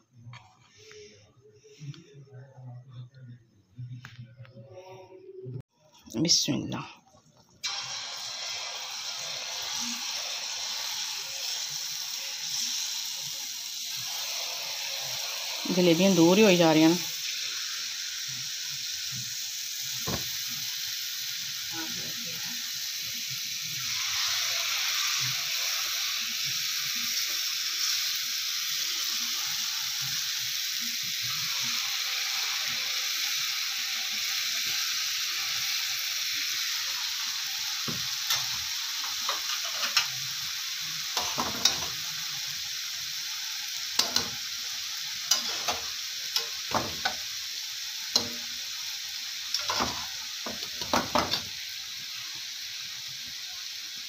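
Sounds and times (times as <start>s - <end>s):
batter sizzling in hot oil: 6.1s - 54.0s.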